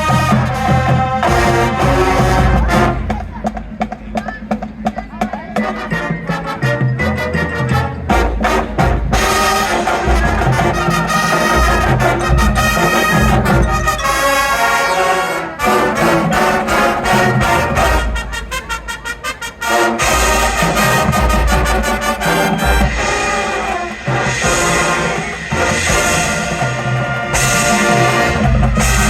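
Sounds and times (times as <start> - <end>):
brass holding chords: 0.0 - 3.4, 5.6 - 29.0
drumline hits: 0.0 - 29.0.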